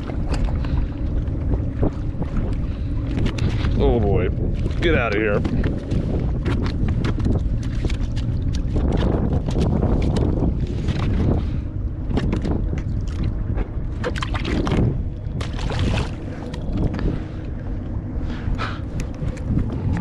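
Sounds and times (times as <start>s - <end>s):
water lapping against hull: 0.0s - 20.0s
wind buffeting microphone: 0.0s - 20.0s.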